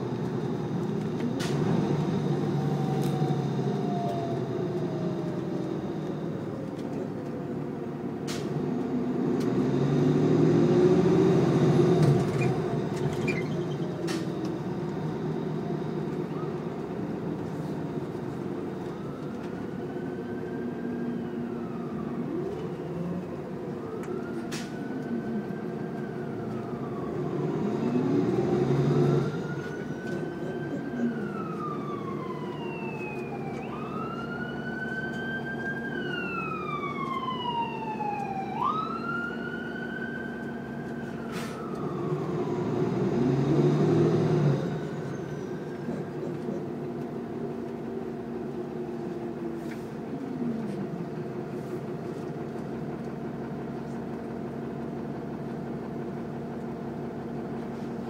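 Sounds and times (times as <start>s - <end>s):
bus diesel engine running: 0.0s - 58.0s
emergency vehicle siren wailing: 0.0s - 58.0s.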